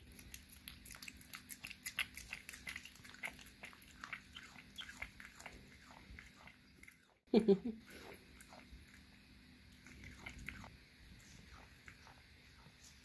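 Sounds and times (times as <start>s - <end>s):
cat chewing crunchy treat: 0.0s - 7.2s, 8.0s - 12.2s.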